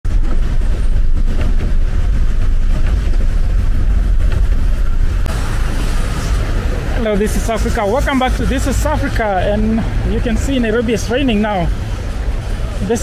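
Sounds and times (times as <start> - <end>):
city street rumble: 0.0 - 13.0.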